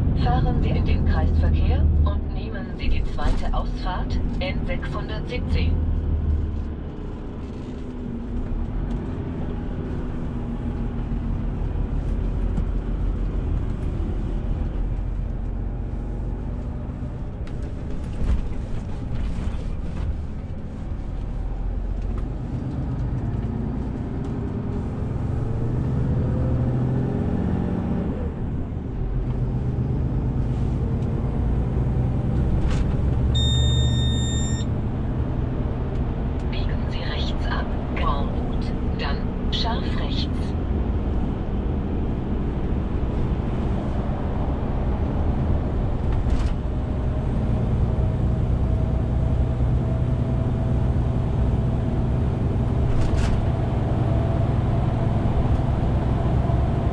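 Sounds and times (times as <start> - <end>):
truck diesel engine drone: 0.0 - 56.9.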